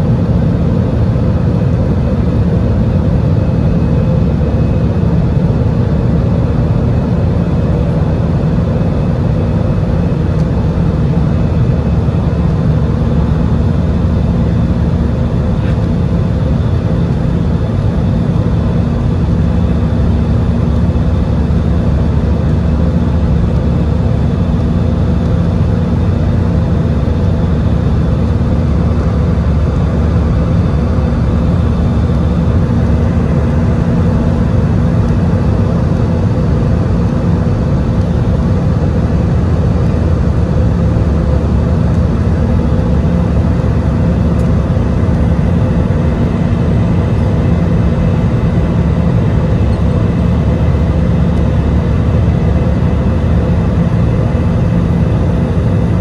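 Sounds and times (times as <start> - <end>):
jet engines rumbling: 0.0 - 56.0
low steady hum: 0.0 - 56.0.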